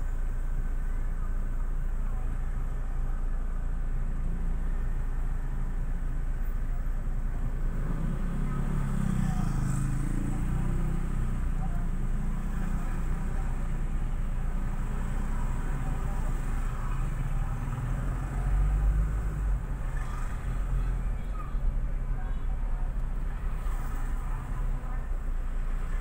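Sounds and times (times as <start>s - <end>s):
car engine and tyres rumbling: 0.0s - 26.0s
nearby engine: 4.2s - 26.0s.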